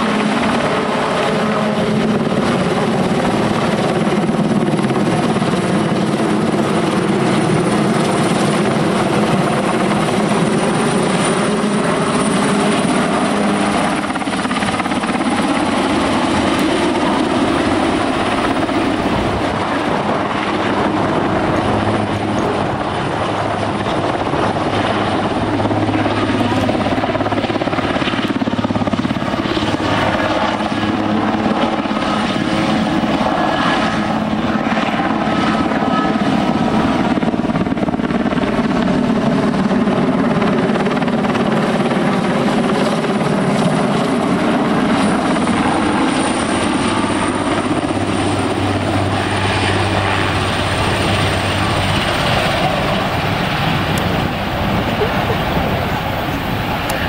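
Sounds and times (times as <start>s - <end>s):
helicopter flying overhead: 0.0s - 57.0s.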